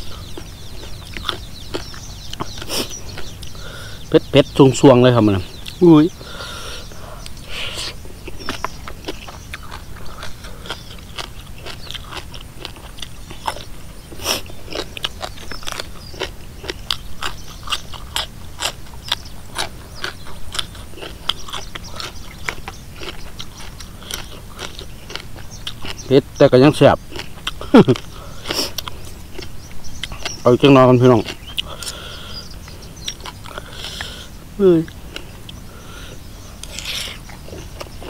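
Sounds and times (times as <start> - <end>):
person chewing crunchy food: 0.0 - 4.1, 4.8 - 38.0.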